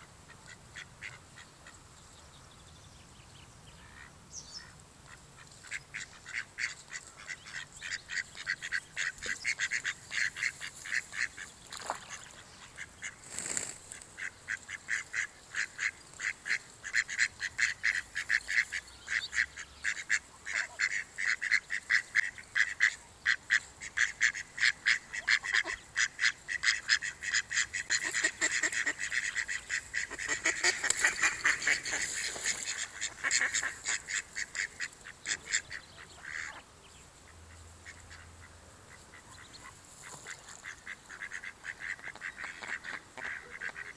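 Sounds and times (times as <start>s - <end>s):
mallard ducks calling: 0.2s - 1.8s, 3.8s - 43.9s.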